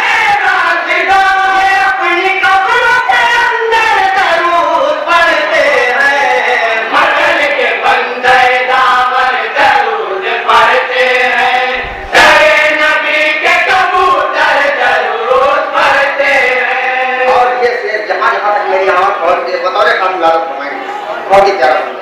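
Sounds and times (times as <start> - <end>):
men chanting through loudspeaker: 0.0 - 22.0.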